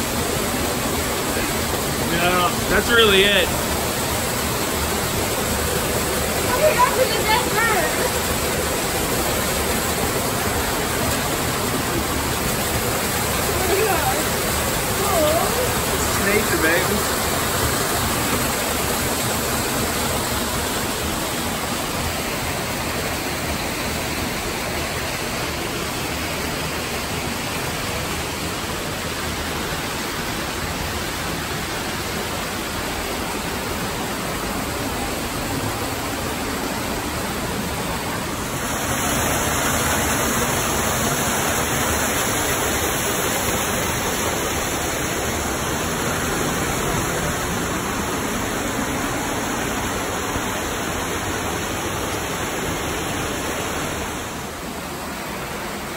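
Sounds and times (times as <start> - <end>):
waterfall splashing over boulders: 0.0 - 55.9.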